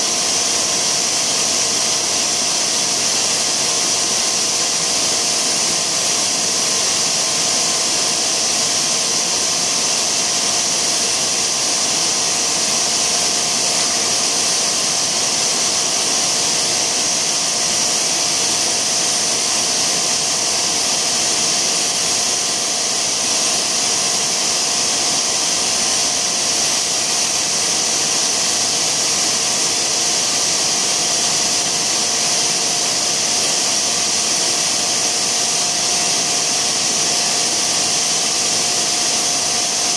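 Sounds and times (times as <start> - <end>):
machine hissing loudly: 0.0 - 39.9.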